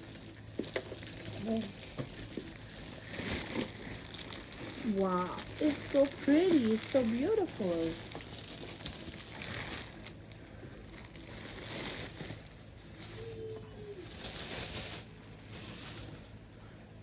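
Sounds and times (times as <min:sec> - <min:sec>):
faint rustling and handling: 0:00.0 - 0:16.6
steady low hum: 0:00.0 - 0:17.0.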